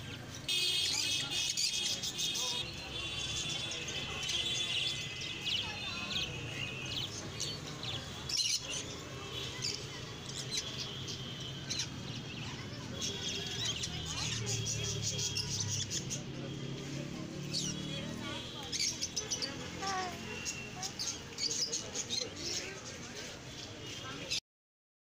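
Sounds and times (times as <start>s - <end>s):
small birds chirping: 0.0s - 24.4s.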